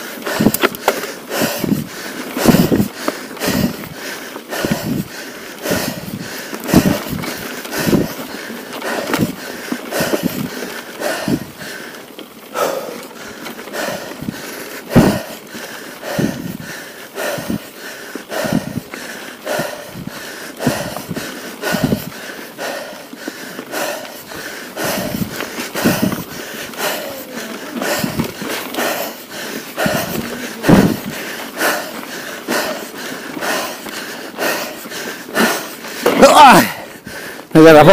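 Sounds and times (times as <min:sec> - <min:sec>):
bike rattling on rocky track: 0:00.0 - 0:37.9
person breathing heavily: 0:00.0 - 0:37.9.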